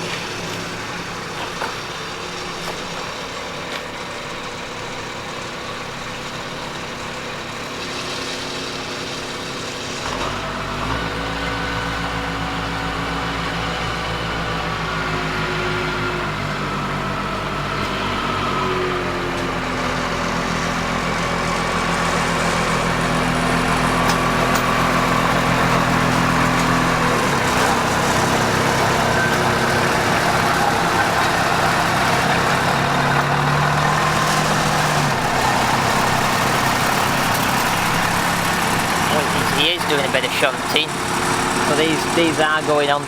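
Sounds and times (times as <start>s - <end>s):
diesel locomotive engine running: 0.0s - 43.0s.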